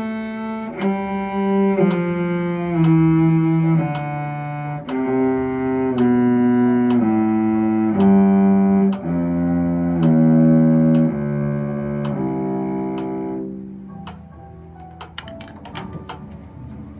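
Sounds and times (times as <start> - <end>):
metronome clicking: 0.0 - 13.4, 14.0 - 14.3, 14.9 - 16.3
bowed string instrument playing scale: 0.0 - 16.9.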